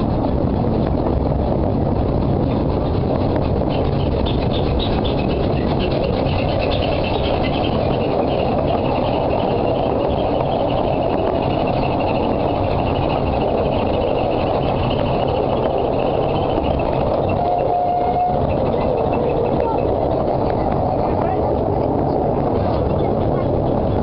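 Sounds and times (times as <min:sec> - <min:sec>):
miniature train rumble and clatter: 0:00.0 - 0:24.0.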